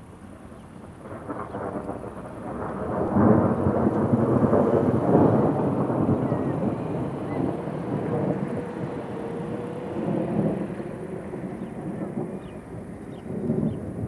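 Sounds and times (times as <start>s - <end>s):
rolling thunder rumble: 0.0s - 14.0s.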